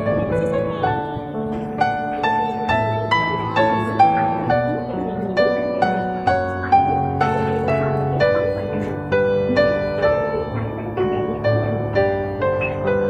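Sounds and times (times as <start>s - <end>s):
gentle background music melody: 0.0s - 13.0s.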